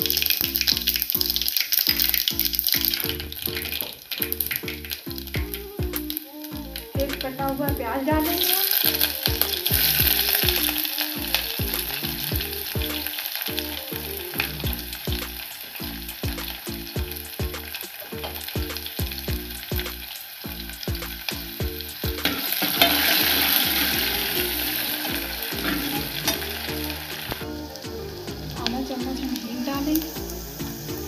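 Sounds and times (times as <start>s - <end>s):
onion sizzling in hot oil: 0.0s - 31.0s.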